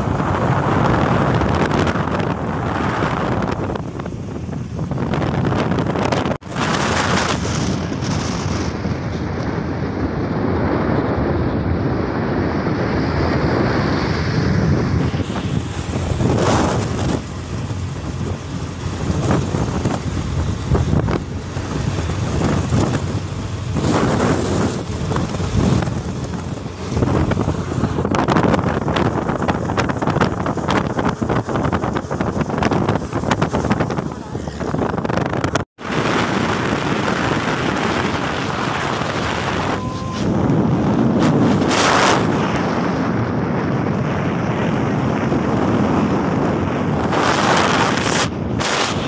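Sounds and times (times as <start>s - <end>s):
motorcycle and road rush: 0.0s - 49.0s
wind buffeting microphone: 0.0s - 49.0s.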